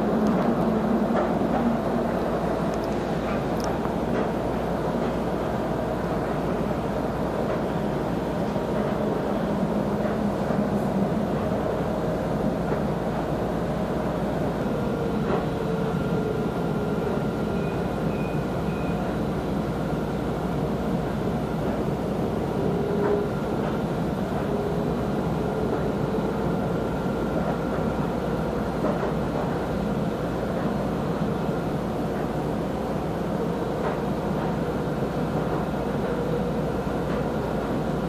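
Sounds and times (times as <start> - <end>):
tram rumble and hiss: 0.0 - 38.0.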